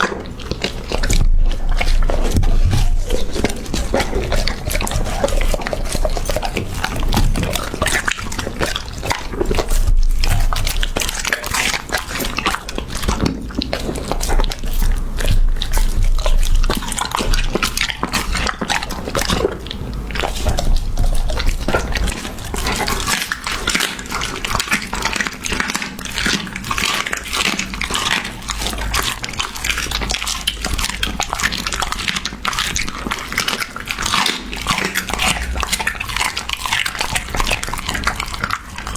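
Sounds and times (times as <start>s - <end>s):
puppy chewing meat: 0.0s - 38.9s.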